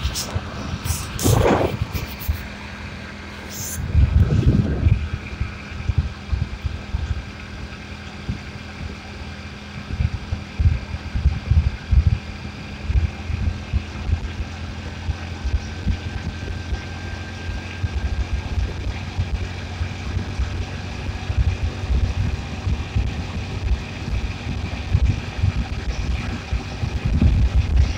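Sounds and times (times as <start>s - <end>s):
motorbike running hum: 0.0s - 27.9s
wind buffeting microphone: 0.0s - 27.9s.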